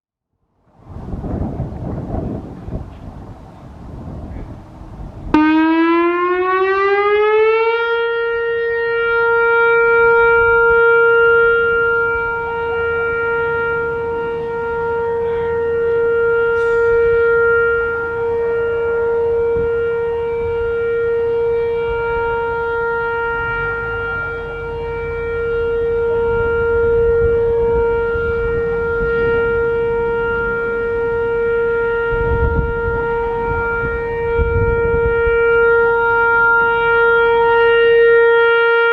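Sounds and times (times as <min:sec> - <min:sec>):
electronic warning siren: 0:05.3 - 0:38.9.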